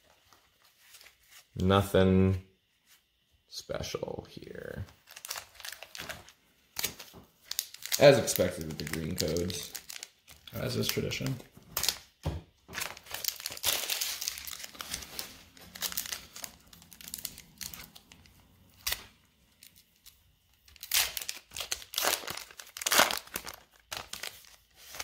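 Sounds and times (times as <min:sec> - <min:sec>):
foil wrapper crinkling and tearing: 0:04.9 - 0:25.0.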